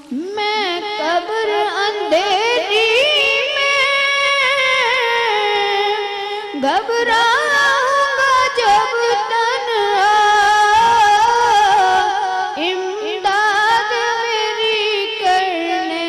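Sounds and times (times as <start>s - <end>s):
boy singing into a microphone: 0.0s - 16.0s.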